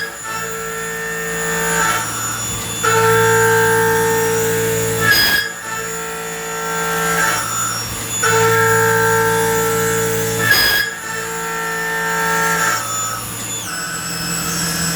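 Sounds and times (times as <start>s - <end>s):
cutter scraping metal: 0.0s - 14.9s
milling cutter whining: 0.0s - 14.9s.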